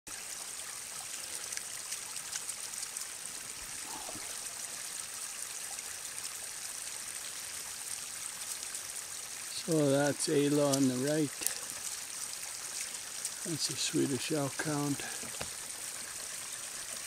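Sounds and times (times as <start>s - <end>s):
stream trickling: 0.1s - 17.0s.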